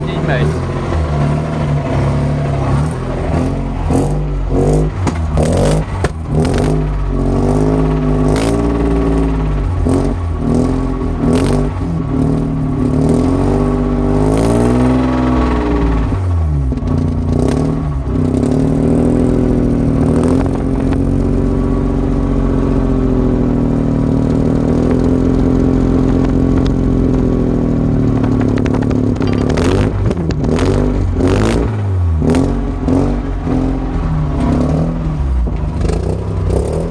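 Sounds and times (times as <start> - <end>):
engine rattling: 0.0 - 36.9
rotary engine revving: 0.0 - 36.9.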